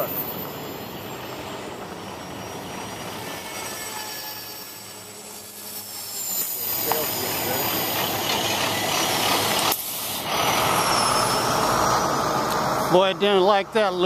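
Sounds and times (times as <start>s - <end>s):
high motor whine: 0.0s - 14.0s.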